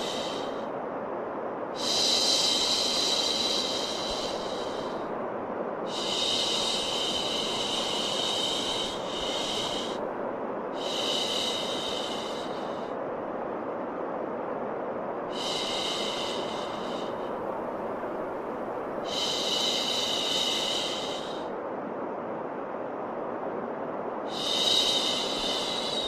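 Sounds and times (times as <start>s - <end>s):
steady white noise: 0.0s - 26.0s.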